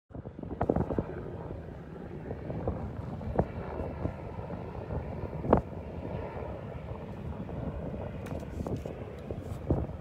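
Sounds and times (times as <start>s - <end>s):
helicopter in flight: 0.1s - 10.0s
thumps from wind gusts: 0.1s - 10.0s
wind buffeting microphone: 0.1s - 10.0s.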